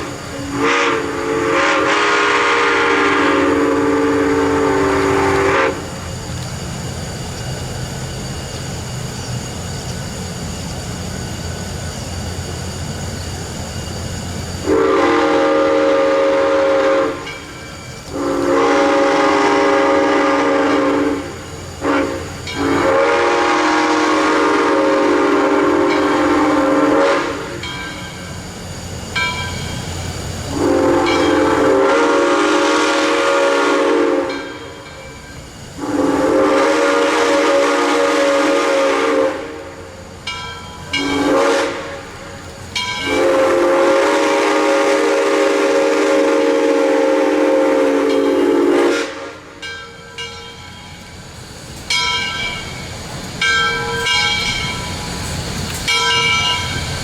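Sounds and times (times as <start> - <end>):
steam locomotive chime whistle: 0.0 - 6.1, 14.6 - 51.2, 51.9 - 57.0
train rumble: 0.0 - 57.0.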